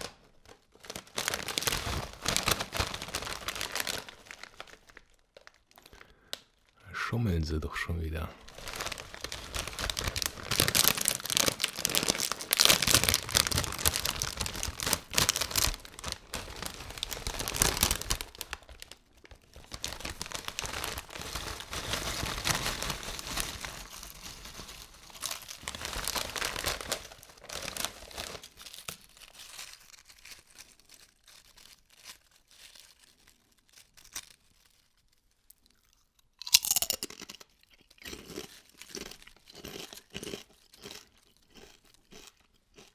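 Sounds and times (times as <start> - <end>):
plastic chip bag crinkling: 0.0 - 42.9.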